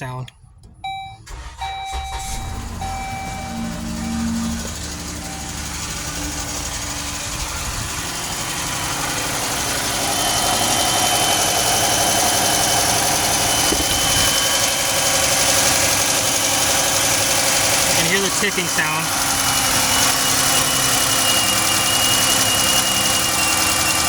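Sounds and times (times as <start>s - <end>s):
car engine idling: 0.0s - 24.0s
engine ticking: 0.0s - 24.0s
high-pitched alternator whistle: 0.8s - 24.0s.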